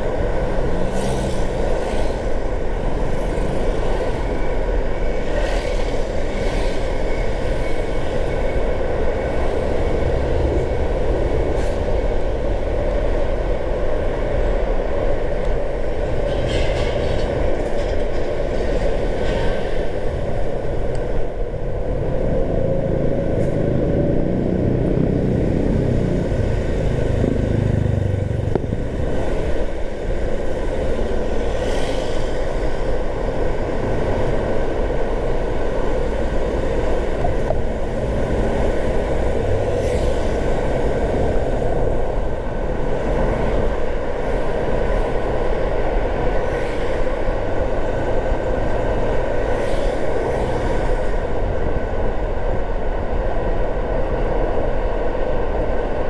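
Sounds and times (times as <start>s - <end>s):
car driving road noise: 0.0s - 56.0s.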